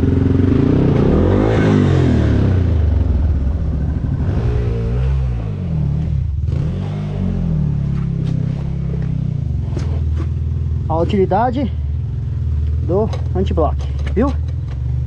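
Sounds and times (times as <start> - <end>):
dirt bike engine revving: 0.0 - 13.6.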